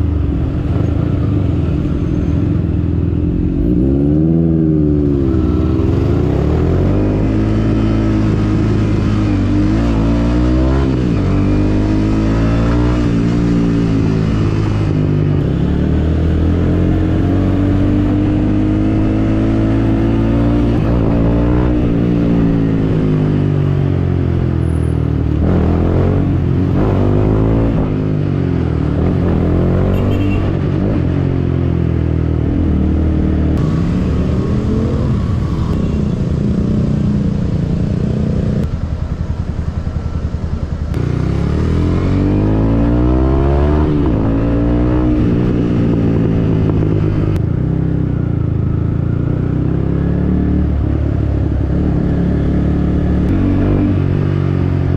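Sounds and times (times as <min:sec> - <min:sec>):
motorcycle engine revving: 0:03.2 - 0:54.9.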